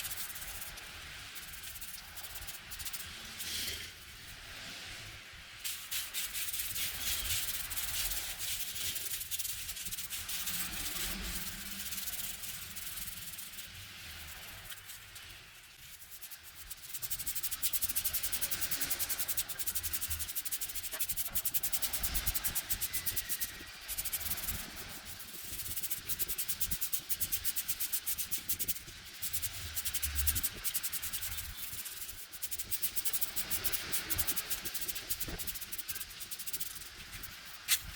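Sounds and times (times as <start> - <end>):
scratchy rubbing on a surface: 1.4 - 3.9, 5.7 - 37.9.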